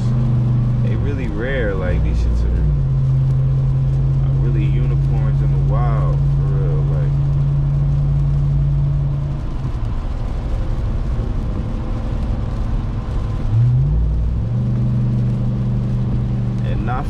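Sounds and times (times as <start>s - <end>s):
engine hum inside car cab: 0.0s - 17.0s.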